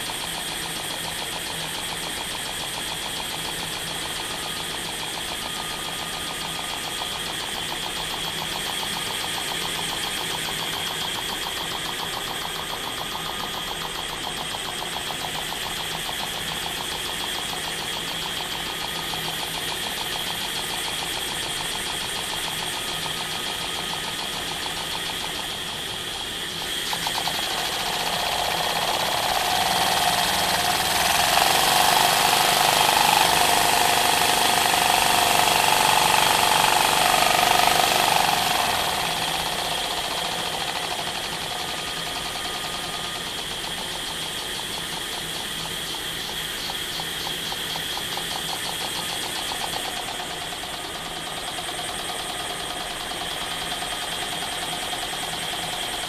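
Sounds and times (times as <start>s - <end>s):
miniature engine running fast: 0.0s - 56.0s.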